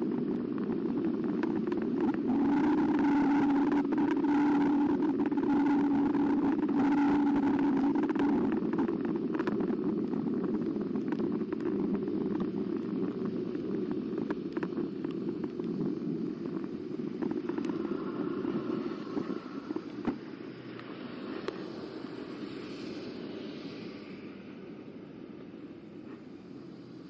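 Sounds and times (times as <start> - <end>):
tyre and wind rumble: 0.0 - 27.0.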